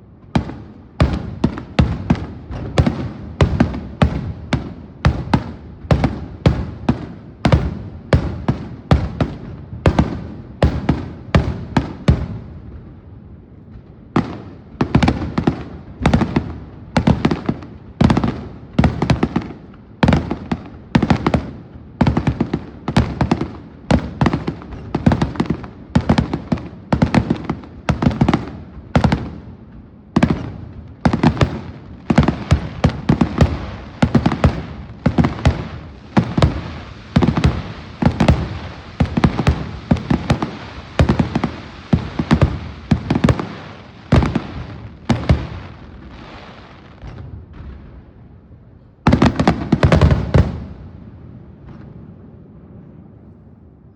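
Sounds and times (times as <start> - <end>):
fireworks bursting with echoes: 0.0 - 53.4.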